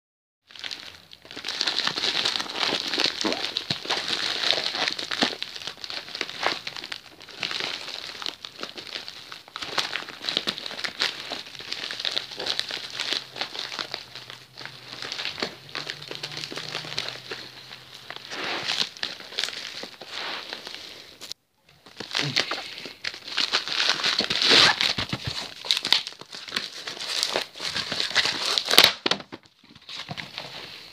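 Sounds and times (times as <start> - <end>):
plastic packaging crinkling: 0.5 - 30.8.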